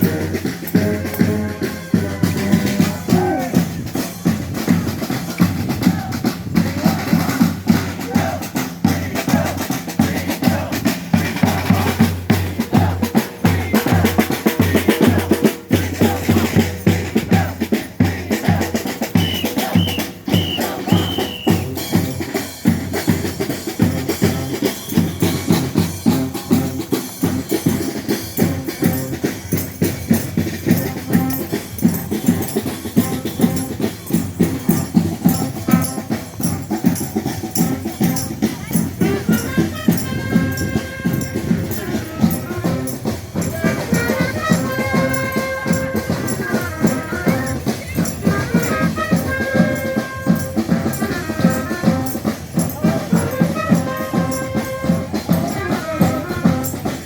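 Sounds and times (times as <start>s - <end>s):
snare and bass drum beat: 0.0s - 57.0s
street band playing: 0.0s - 57.0s.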